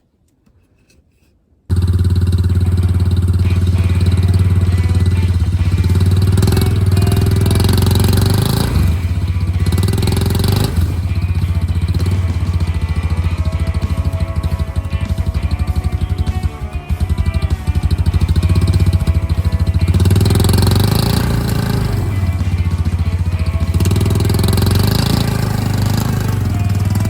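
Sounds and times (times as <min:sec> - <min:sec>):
quad bike engine running: 0:01.7 - 0:27.0.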